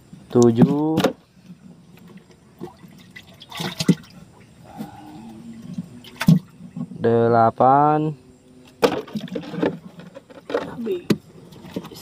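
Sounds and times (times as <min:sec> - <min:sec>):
water splashing and sloshing: 0:00.4 - 0:07.0, 0:08.6 - 0:12.0.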